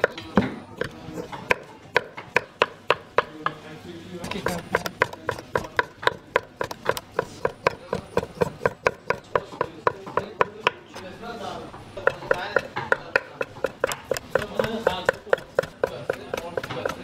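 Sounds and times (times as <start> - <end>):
knife chopping on cutting board: 0.0 - 3.6, 4.2 - 10.8, 12.0 - 17.0.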